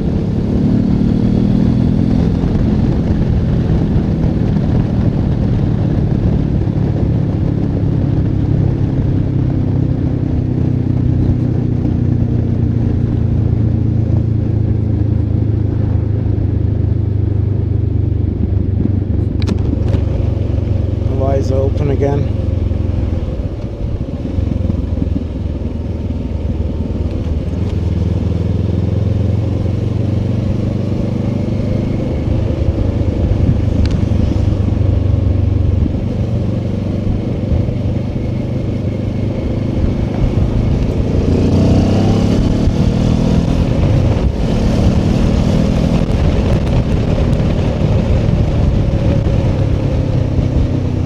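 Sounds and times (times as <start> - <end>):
motorcycle engine and exhaust: 0.0 - 51.0.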